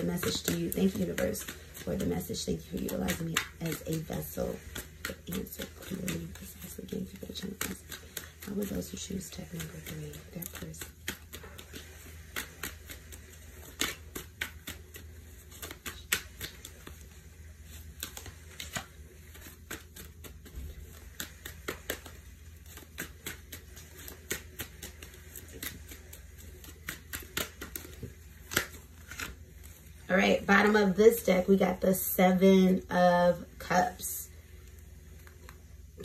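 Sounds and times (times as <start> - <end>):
cards shuffled and dealt: 0.0 - 32.2, 34.5 - 36.0
faint low hum: 0.0 - 36.0.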